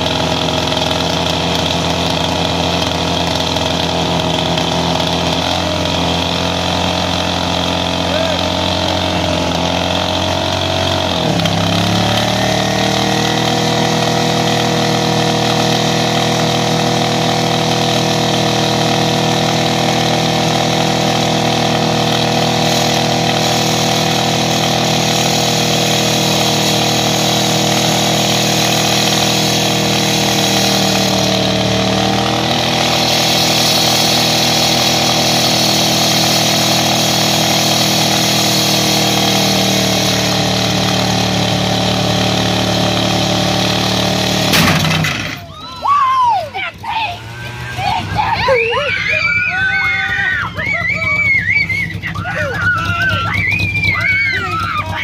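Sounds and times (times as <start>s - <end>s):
pickup engine revving high: 0.0s - 45.8s, 46.4s - 55.0s.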